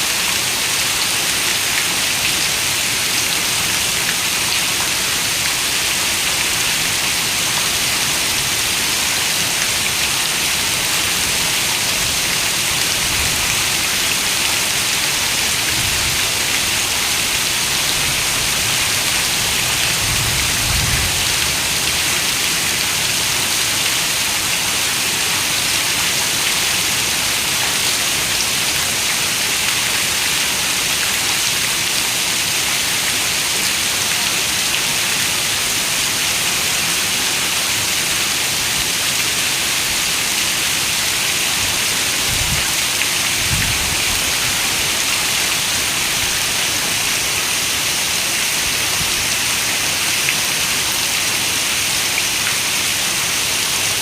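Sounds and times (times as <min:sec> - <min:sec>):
heavy rain on a window: 0:00.1 - 0:54.0.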